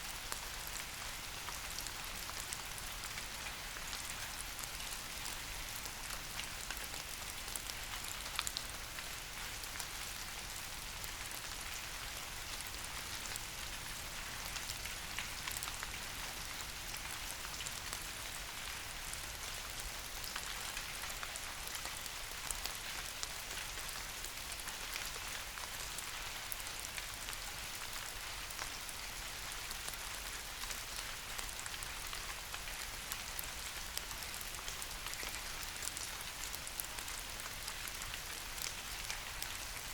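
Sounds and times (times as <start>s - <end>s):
soft rain pattering on leaves: 0.0s - 39.9s.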